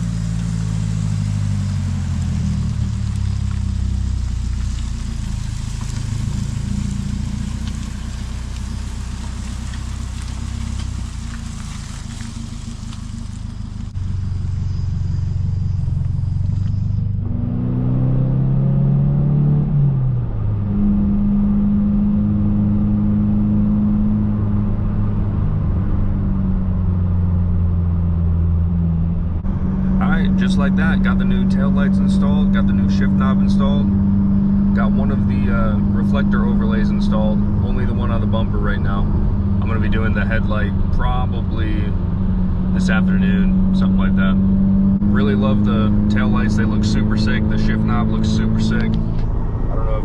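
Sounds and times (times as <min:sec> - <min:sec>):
car engine running: 0:00.0 - 0:50.0
road and wind noise: 0:00.0 - 0:50.0.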